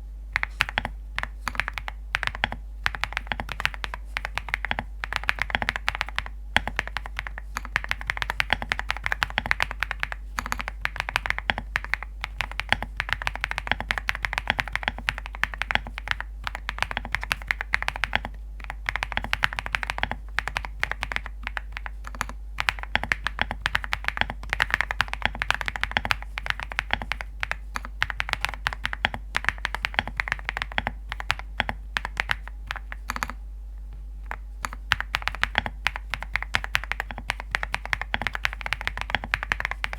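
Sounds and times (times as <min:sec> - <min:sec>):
fast typing on mechanical keyboard: 0:00.4 - 0:33.4, 0:34.3 - 0:39.9.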